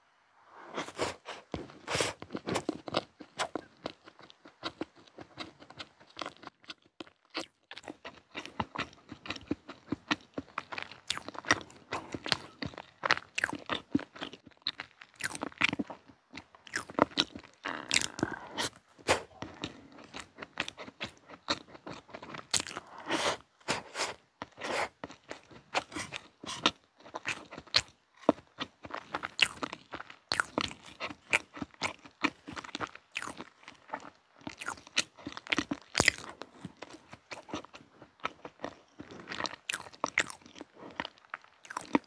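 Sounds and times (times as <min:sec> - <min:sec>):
chewing with wet mouth clicks: 0:02.2 - 0:22.9, 0:24.4 - 0:42.0.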